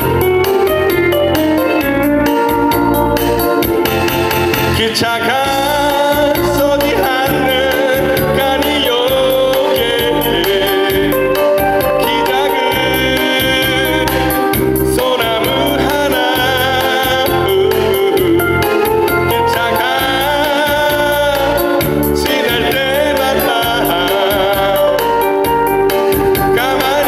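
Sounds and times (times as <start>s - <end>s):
pulsing bass beat: 0.0s - 27.0s
sustained keyboard chords: 0.0s - 27.0s
man singing into a microphone: 4.6s - 27.0s.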